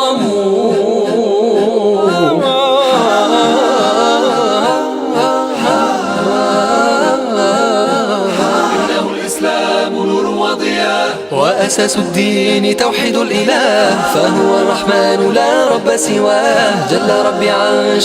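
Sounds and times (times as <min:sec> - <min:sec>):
voices singing unaccompanied: 0:00.0 - 0:18.0.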